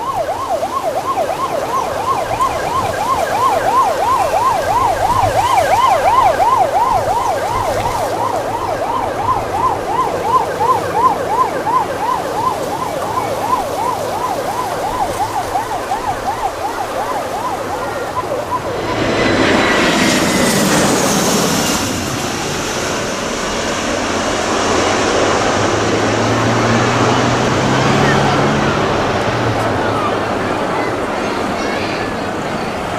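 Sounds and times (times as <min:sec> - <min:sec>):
siren yelping: 0:00.0 - 0:29.2
jet engines overhead: 0:00.0 - 0:32.9.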